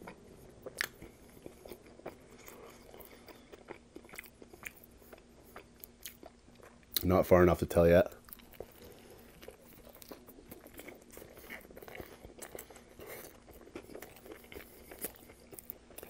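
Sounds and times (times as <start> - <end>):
person chewing bread: 0.0 - 7.0, 8.1 - 16.0.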